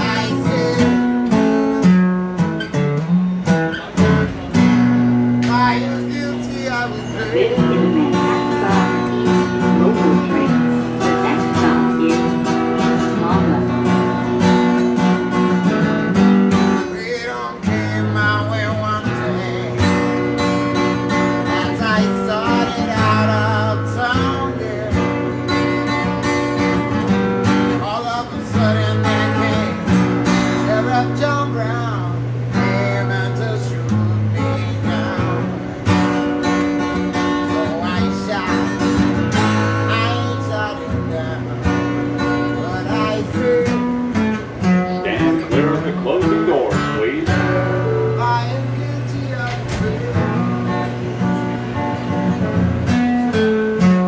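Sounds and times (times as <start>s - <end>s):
acoustic guitar: 0.0s - 54.0s.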